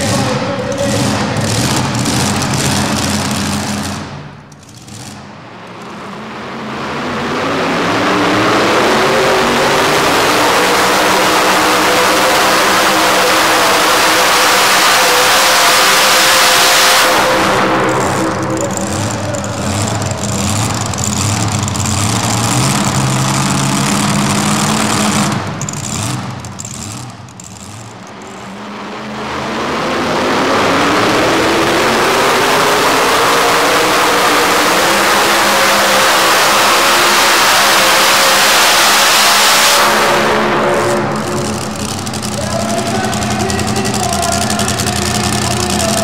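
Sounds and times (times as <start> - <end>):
supercharged engine running: 0.0 - 46.0
truck engine at full throttle: 0.0 - 46.0.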